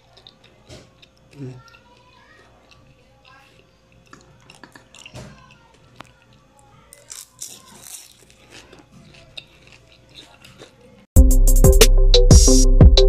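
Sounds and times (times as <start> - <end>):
crunching of someone eating: 0.0 - 11.1.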